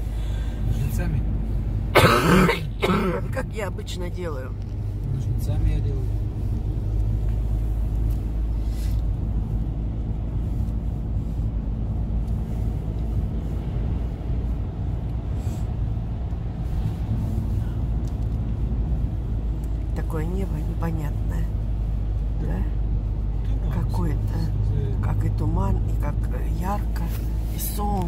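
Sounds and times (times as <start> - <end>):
car engine hum: 0.0 - 28.0
tyre road noise: 0.0 - 28.0.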